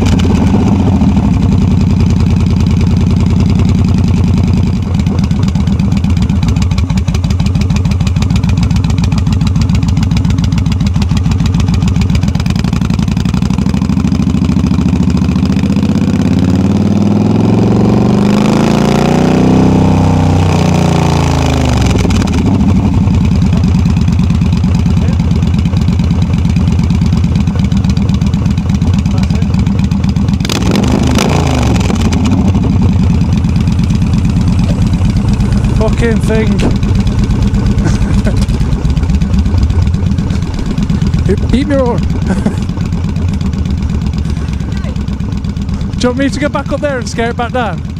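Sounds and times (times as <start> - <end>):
motorcycle engine riding: 0.0 - 47.9.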